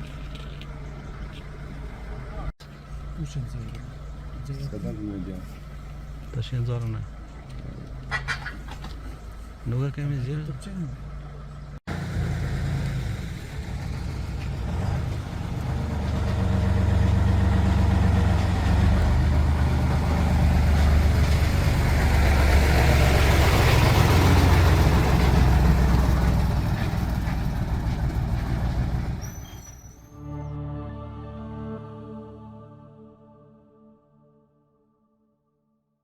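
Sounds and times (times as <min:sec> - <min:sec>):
vehicle engine rumbling: 0:00.0 - 0:30.4.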